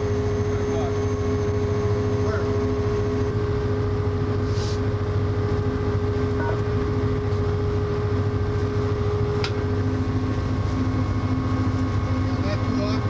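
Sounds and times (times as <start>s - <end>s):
diesel train droning: 0.0s - 13.0s.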